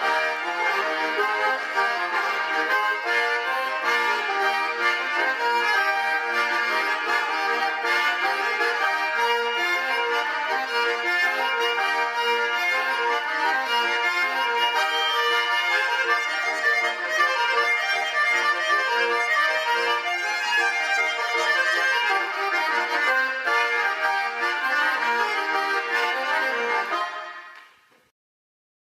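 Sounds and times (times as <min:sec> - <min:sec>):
button accordion folk tune: 0:00.0 - 0:27.9.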